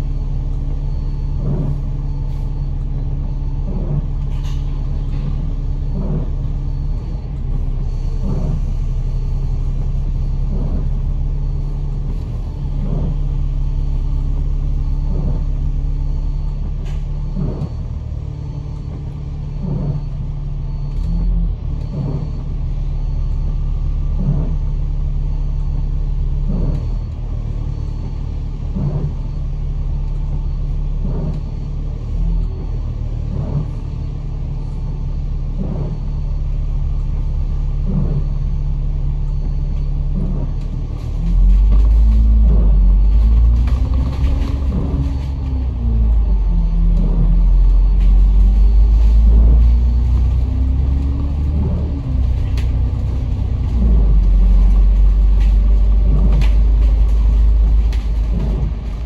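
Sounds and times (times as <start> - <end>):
bus engine and road rumble: 0.0 - 59.0
windscreen wipers swishing: 0.0 - 59.0.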